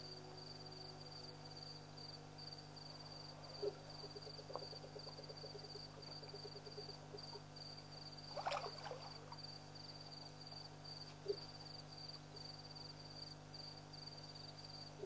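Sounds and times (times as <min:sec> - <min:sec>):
crickets trilling: 0:00.0 - 0:15.0
low hum: 0:00.0 - 0:15.0.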